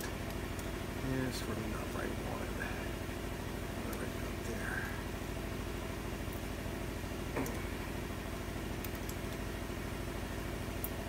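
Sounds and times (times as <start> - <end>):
machine humming with pulse: 0.0 - 11.0.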